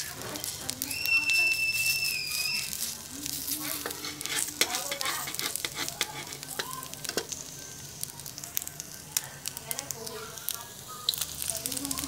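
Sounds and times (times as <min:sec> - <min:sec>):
egg sizzling in a wok: 0:00.0 - 0:12.0
small pops and crackles: 0:00.0 - 0:12.0.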